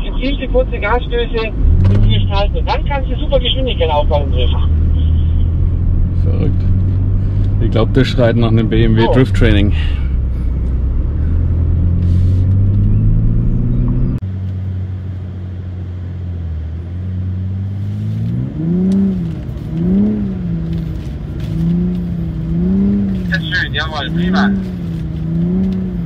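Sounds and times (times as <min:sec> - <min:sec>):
car engine from inside cabin: 0:00.0 - 0:26.0.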